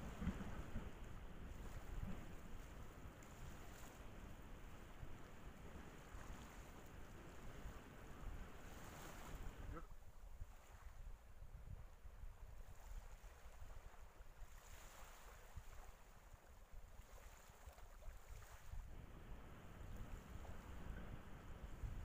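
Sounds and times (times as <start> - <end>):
harbour water wash: 0.0 - 22.0
wind rumble on microphone: 0.0 - 22.0.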